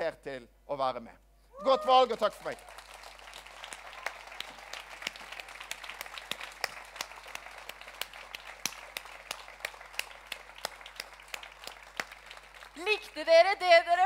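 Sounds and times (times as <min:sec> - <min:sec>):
small audience applauding: 0:01.6 - 0:13.2.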